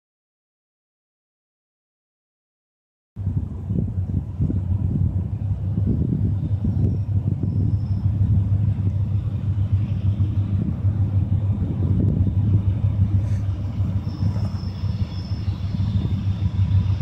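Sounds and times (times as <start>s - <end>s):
diesel locomotives rumbling: 3.2s - 17.0s
faint high whine: 3.2s - 17.0s.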